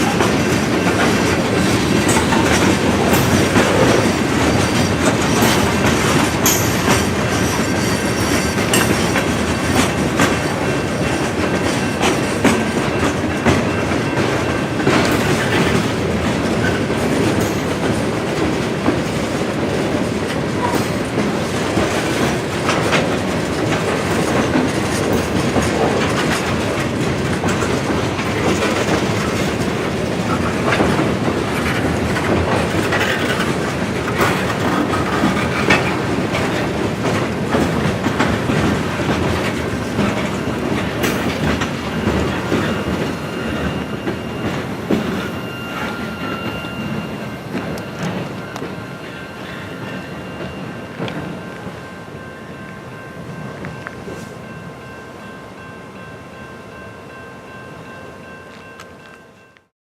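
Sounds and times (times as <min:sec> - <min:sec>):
wheels clicking over rail joints: 0:00.0 - 0:49.8.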